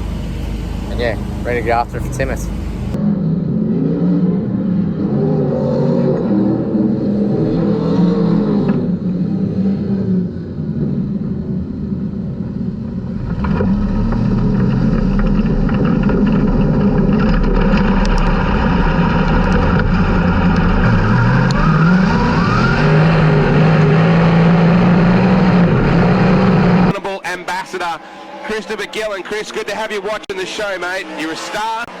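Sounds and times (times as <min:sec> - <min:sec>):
race car engine running: 0:00.0 - 0:32.0.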